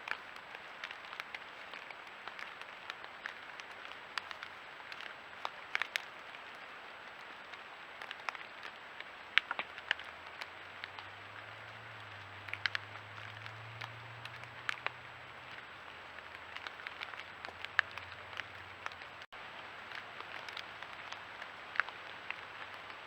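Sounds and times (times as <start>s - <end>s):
steady hiss with crackles: 0.0s - 23.0s.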